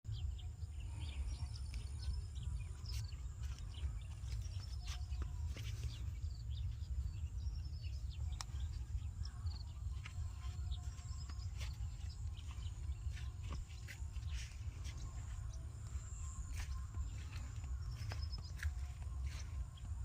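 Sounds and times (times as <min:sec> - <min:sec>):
small birds trilling: 0:00.1 - 0:20.0.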